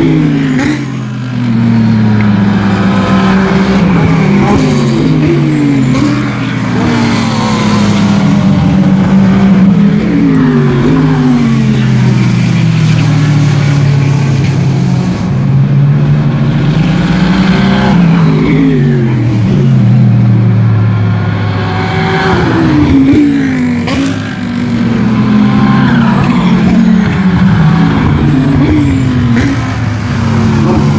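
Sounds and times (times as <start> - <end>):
race cars passing at full throttle: 0.0 - 30.9.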